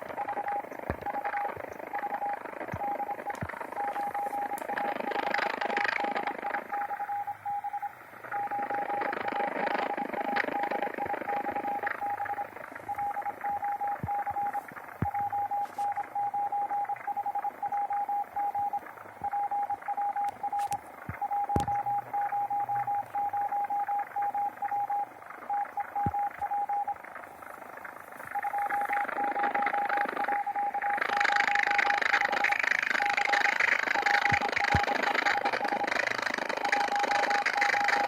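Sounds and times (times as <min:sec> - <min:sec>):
sharp clicks: 0:00.0 - 0:07.2, 0:08.2 - 0:27.1, 0:27.7 - 0:38.0
morse code tone: 0:00.0 - 0:27.1, 0:28.1 - 0:38.0
radio band hiss: 0:00.0 - 0:38.0.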